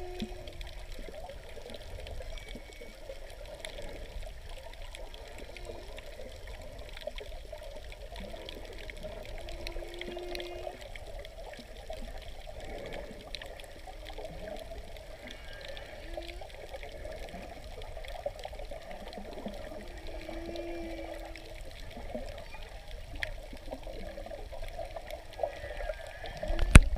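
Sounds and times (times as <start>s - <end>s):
faint clicks: 0.0s - 26.9s
humpback whale song underwater: 0.0s - 26.9s.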